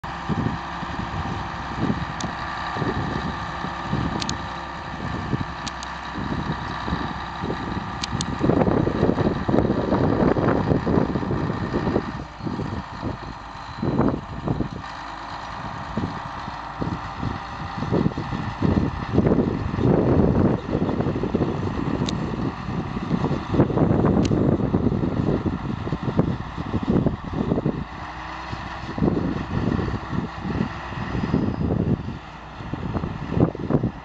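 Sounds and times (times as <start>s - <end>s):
diesel bulldozer running: 0.0s - 34.0s.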